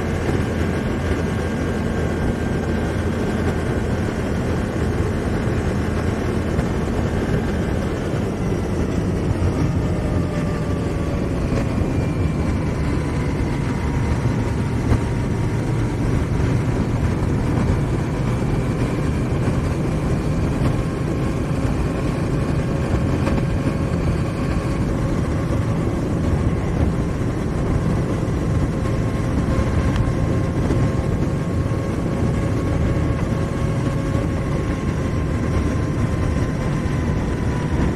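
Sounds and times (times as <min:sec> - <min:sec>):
motorcycle engine running: 0:00.0 - 0:37.9
road noise: 0:00.0 - 0:37.9
wind noise: 0:00.0 - 0:37.9.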